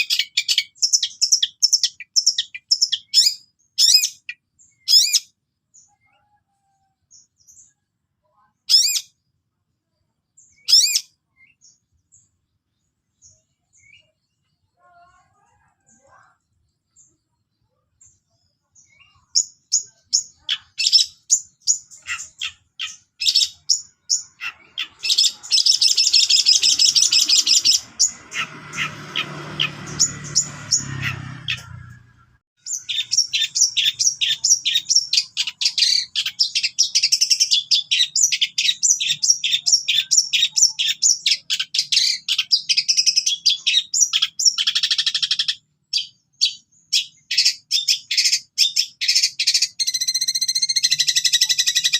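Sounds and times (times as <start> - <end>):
bird chattering song: 0.0 - 9.2, 10.0 - 51.9.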